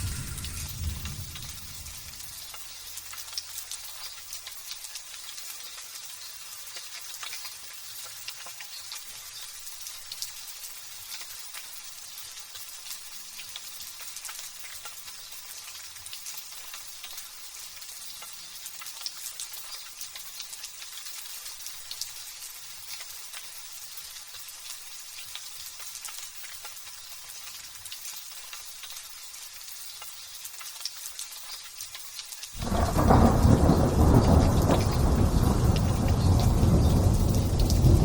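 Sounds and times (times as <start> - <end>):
light drizzle falling: 0.0 - 38.0.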